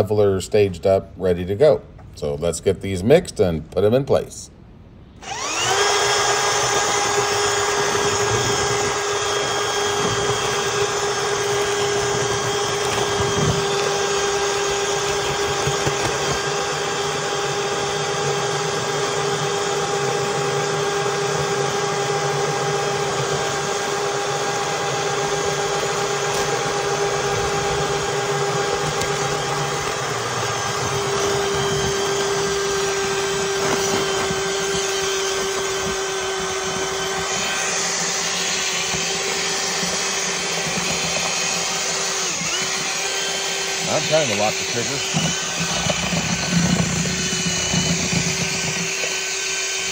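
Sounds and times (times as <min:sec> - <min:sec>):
drill mixer motor hum: 0:05.2 - 0:49.9.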